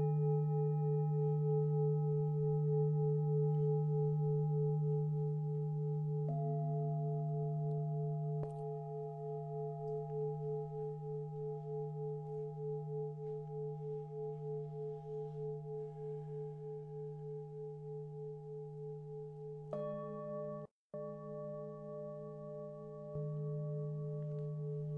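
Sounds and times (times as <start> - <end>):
singing bowls ringing: 0.0 - 24.9.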